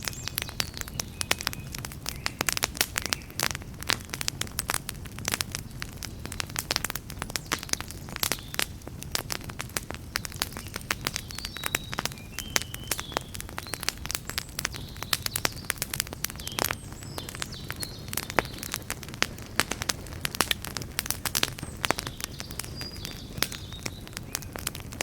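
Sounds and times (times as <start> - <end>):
campfire crackling and popping: 0.0 - 25.0
low rumble of flames: 0.0 - 25.0.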